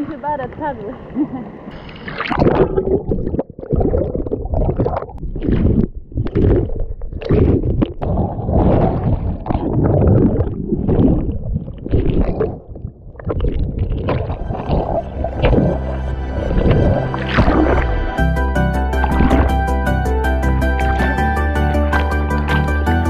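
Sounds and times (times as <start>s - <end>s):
seawater sloshing and gurgling: 1.8s - 23.0s.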